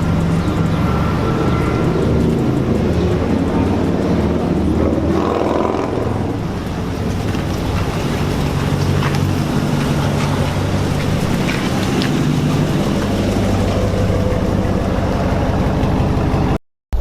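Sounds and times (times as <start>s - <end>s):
continuous rushing noise: 0.0s - 17.0s
low hum: 0.0s - 17.0s
vehicle engine running: 0.0s - 17.0s.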